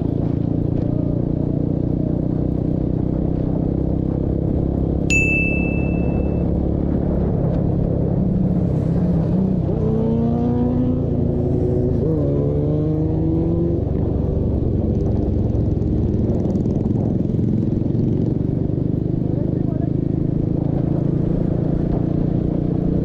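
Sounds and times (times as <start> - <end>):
motorcycle engine accelerating: 0.0 - 23.0
motorcycle engines and road rumble: 0.0 - 23.0.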